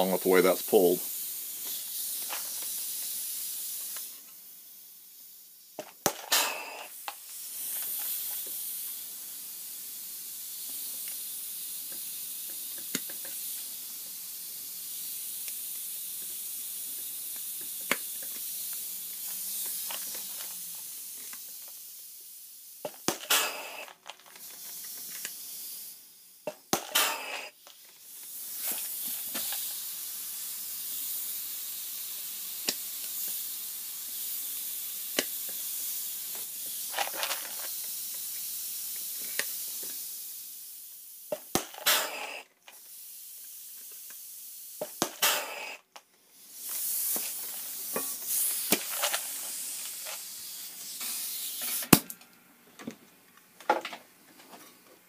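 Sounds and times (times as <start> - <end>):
compressed air hissing: 0.0 - 52.0.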